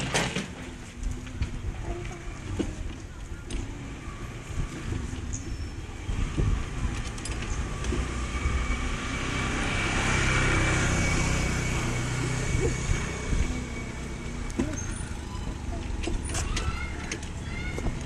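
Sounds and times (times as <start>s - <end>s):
small wheels rumbling over paving: 0.0s - 18.0s
motor scooter passing: 0.6s - 18.0s.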